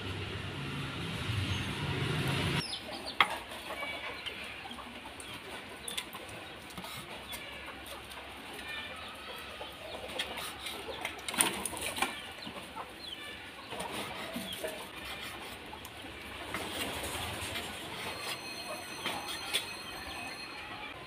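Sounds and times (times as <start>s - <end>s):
chickens clucking: 2.6s - 21.0s.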